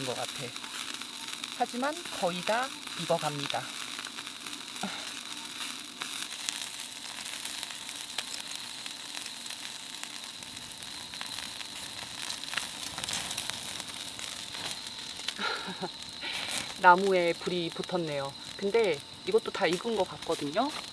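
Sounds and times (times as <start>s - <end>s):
fat and wood crackling: 0.0s - 20.9s
meat sizzling on a grill: 0.0s - 20.9s.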